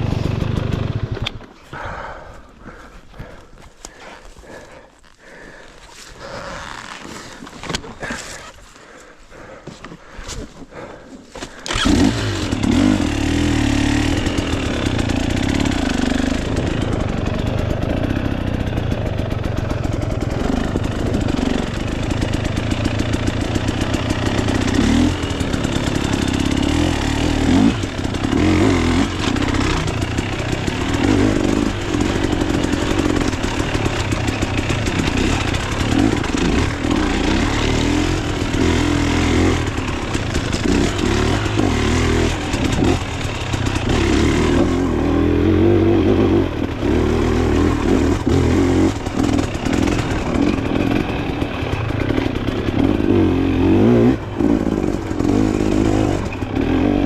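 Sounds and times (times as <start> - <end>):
dirt bike engine revving: 0.0 - 1.3, 10.8 - 57.0.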